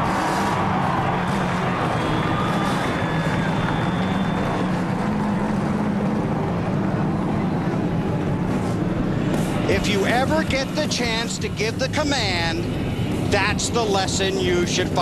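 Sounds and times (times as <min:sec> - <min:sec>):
race car engines rumbling: 0:00.0 - 0:15.0.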